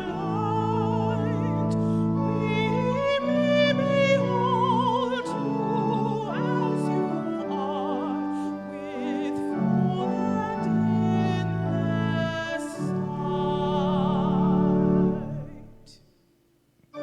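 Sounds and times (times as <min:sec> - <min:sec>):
keyboard chords: 0:00.0 - 0:15.9
operatic solo singer: 0:00.0 - 0:16.0.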